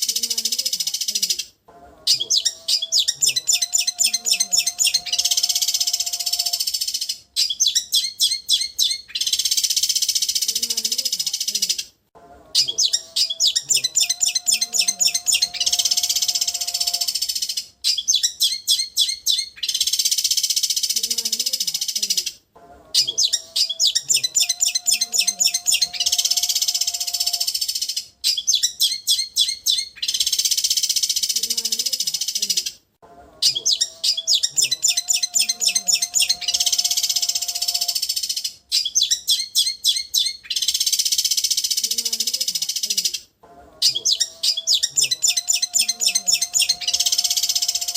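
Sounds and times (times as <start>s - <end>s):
bird trilling: 0.0s - 11.9s, 12.5s - 32.8s, 33.4s - 47.9s
bird chirping sharply: 2.1s - 11.9s, 12.6s - 22.3s, 23.0s - 32.7s, 33.4s - 43.0s, 43.8s - 47.9s.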